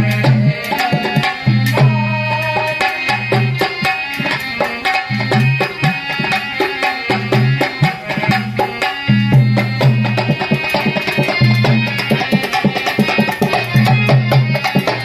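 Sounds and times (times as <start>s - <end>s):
dholak drumming: 0.0s - 15.0s
sustained melody line: 0.0s - 15.0s.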